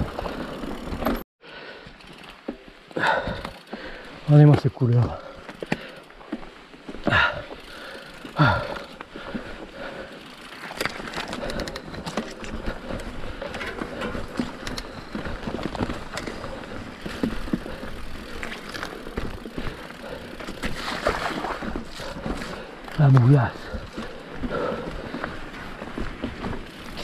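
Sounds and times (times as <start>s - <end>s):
bike rattling over bumps: 0.0s - 6.2s, 7.1s - 27.0s
bike tyres on dirt: 0.0s - 27.0s.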